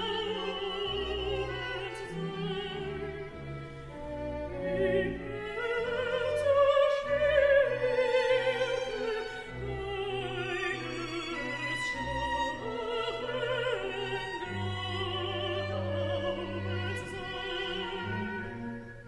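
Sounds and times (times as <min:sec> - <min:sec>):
bowed strings: 0:00.0 - 0:19.0.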